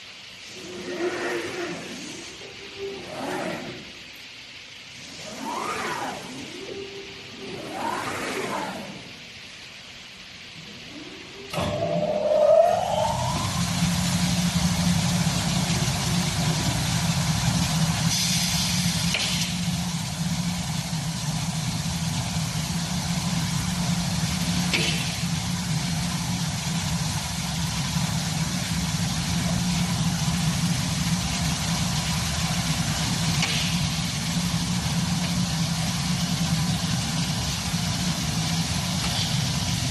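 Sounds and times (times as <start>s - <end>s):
machine hum: 0.0s - 39.9s.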